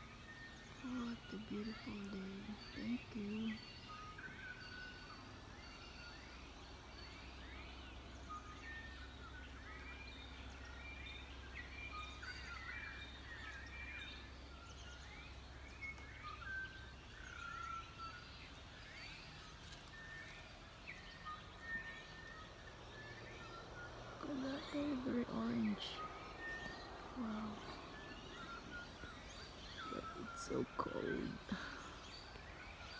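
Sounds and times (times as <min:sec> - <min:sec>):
low steady hum: 0:00.0 - 0:32.9
small birds chirping: 0:00.0 - 0:32.9.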